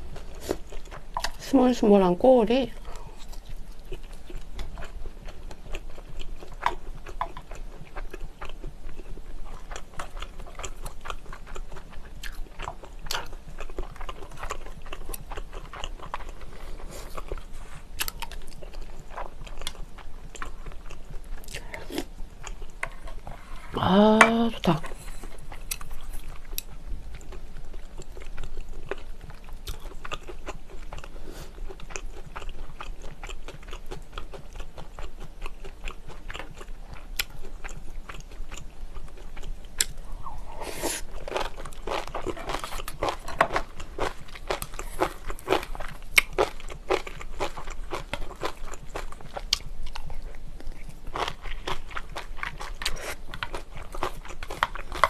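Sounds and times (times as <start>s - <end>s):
chewing and crunching: 0.0s - 23.7s, 24.3s - 55.0s.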